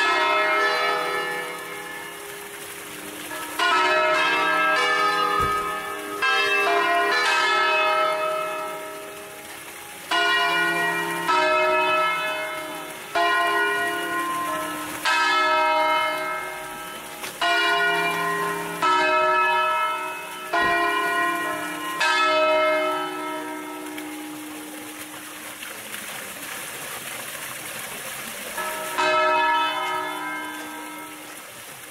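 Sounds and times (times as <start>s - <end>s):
church bells ringing: 0.0s - 25.2s, 28.5s - 31.5s.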